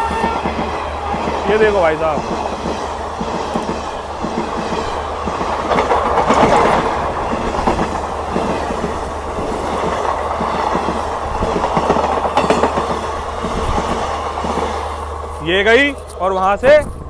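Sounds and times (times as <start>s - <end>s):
train wheels rushing on rail: 0.0s - 17.0s
wheels clickety-clack: 0.0s - 17.0s.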